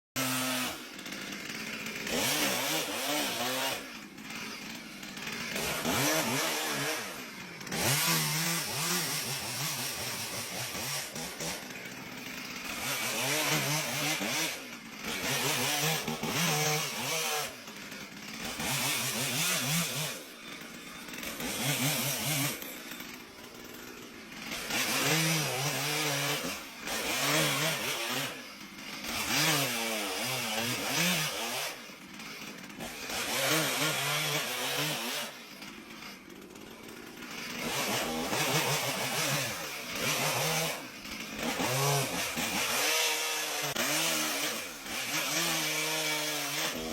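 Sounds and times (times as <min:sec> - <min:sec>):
chainsaw revving while cutting wood: 0:00.2 - 0:46.9.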